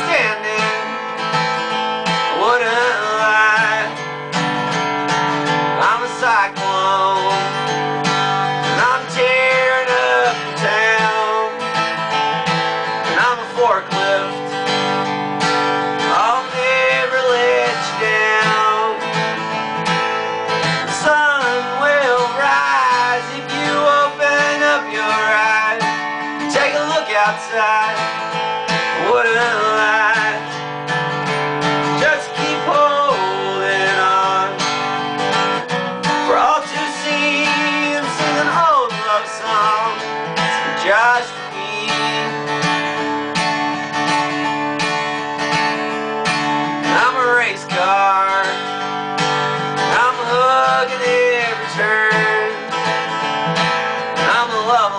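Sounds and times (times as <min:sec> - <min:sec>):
strummed acoustic guitar song: 0:00.0 - 0:54.9.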